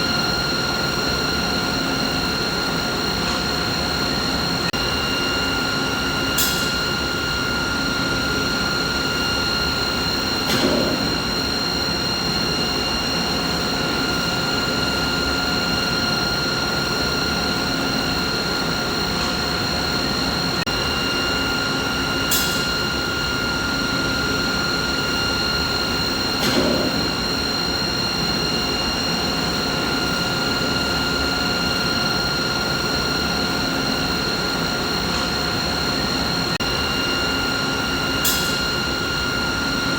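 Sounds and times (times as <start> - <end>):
machinery rushing hum: 0.0 - 39.9.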